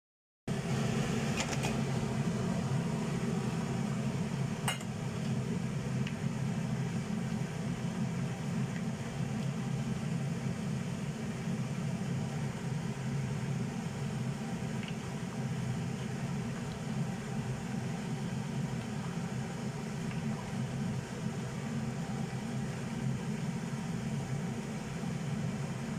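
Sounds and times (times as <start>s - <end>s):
water boiling in a pot: 0.5s - 25.9s.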